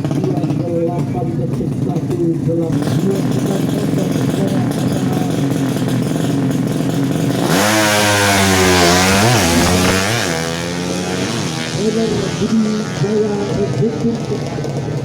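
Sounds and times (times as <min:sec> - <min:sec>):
motorcycle engine revving high: 0:00.0 - 0:15.0.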